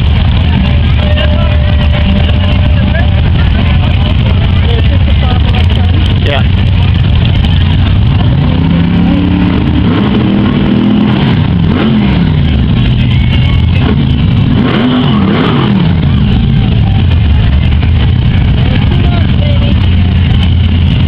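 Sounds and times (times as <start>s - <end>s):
engine throttle blips: 0.0s - 21.0s
engines rumbling: 0.0s - 21.0s.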